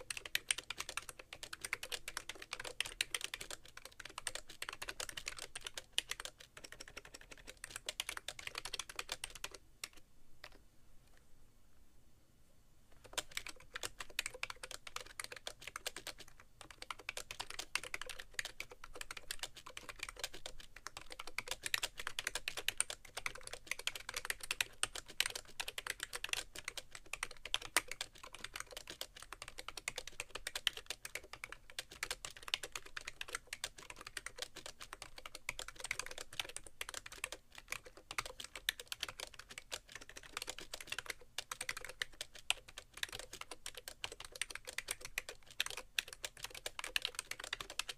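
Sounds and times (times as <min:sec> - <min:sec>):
keyboard typing clicks: 0:00.0 - 0:10.6, 0:13.0 - 0:47.9.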